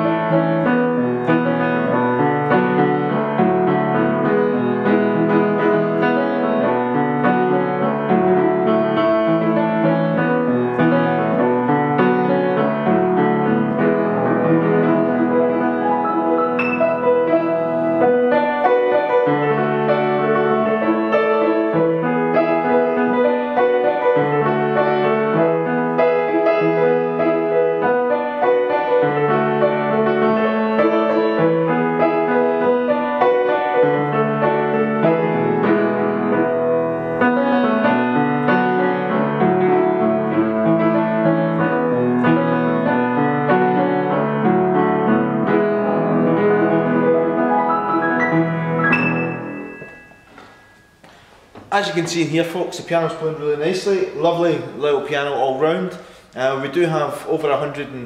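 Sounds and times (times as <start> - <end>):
piano playing: 0.0 - 58.0.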